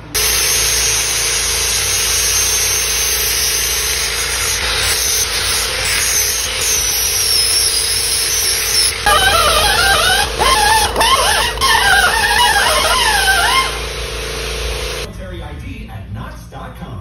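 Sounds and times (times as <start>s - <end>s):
angle grinder grinding metal: 0.0s - 15.1s.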